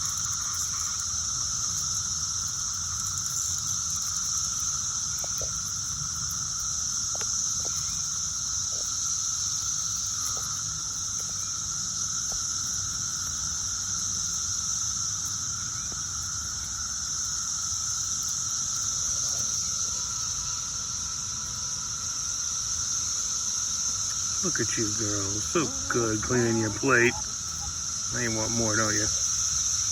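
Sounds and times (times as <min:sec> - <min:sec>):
cicada chorus droning: 0:00.0 - 0:29.9.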